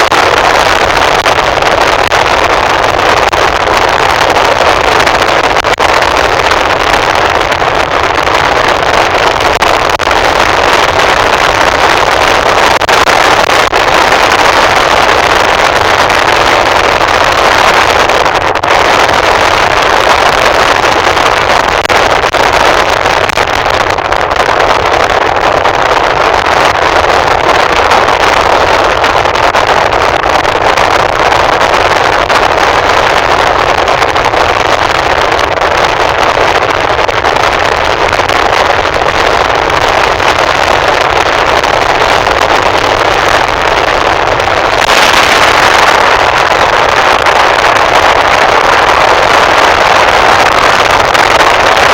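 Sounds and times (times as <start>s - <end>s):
vehicle road and wind noise: 0.0s - 51.9s.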